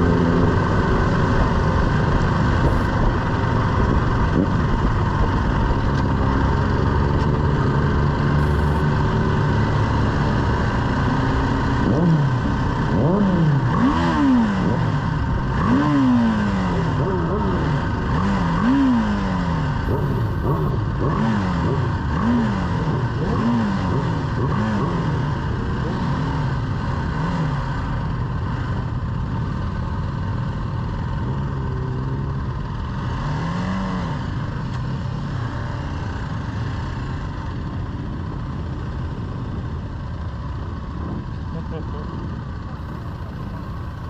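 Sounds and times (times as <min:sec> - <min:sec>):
motorcycle engine revving: 0:00.0 - 0:44.0
road and wind noise: 0:00.0 - 0:44.0.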